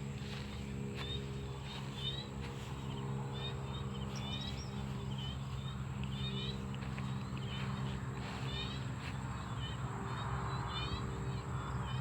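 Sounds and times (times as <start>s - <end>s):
frogs and birds chirping: 0.0s - 12.0s
high insect drone: 0.0s - 12.0s
low steady hum: 0.0s - 12.0s.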